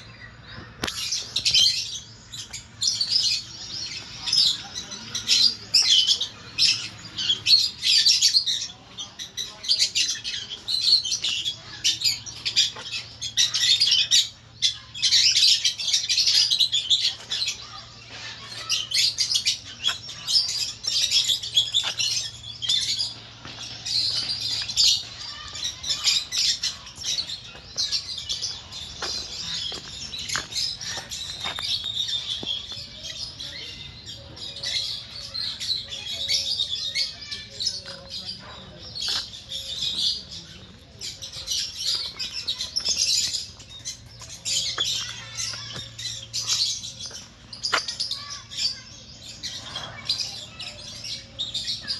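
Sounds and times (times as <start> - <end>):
flock of small birds chirping: 0.0 - 51.9.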